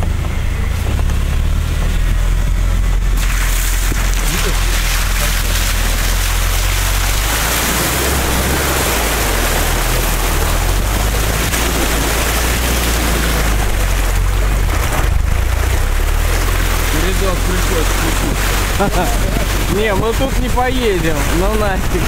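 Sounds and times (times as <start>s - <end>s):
vehicle engine low drone: 0.0s - 22.0s
water rushing and splashing: 0.0s - 22.0s.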